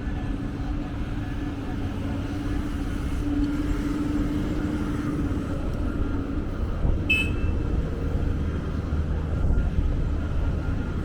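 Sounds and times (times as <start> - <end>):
vehicle rumbling: 0.0 - 11.0.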